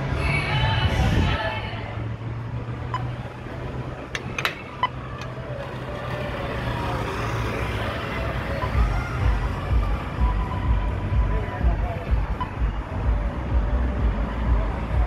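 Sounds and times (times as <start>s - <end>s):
constant low hum: 0.0s - 15.0s
distant car noise: 0.0s - 15.0s.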